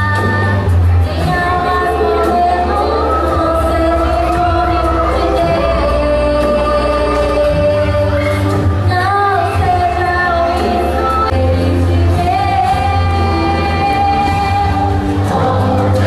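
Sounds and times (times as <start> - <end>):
instrumental accompaniment with bass: 0.0 - 16.0
women's choir singing gospel: 0.0 - 16.0.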